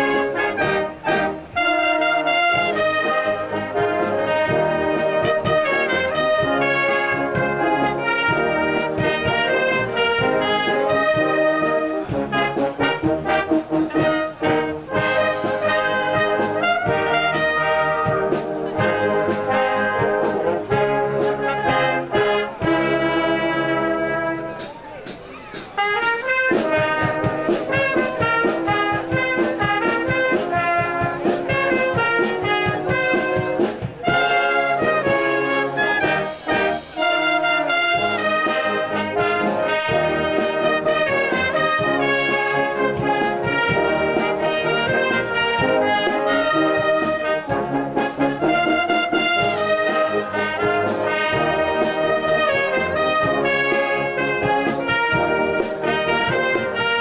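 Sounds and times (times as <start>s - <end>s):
brass band playing: 0.0s - 57.0s
drum beats: 0.0s - 57.0s.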